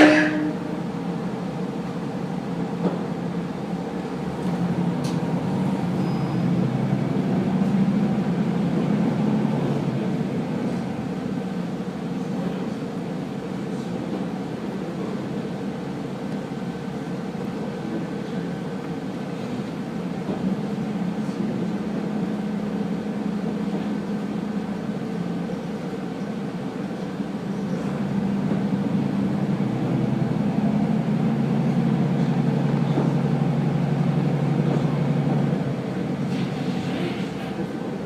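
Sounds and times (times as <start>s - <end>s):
diesel railcar engine humming: 0.0s - 38.0s.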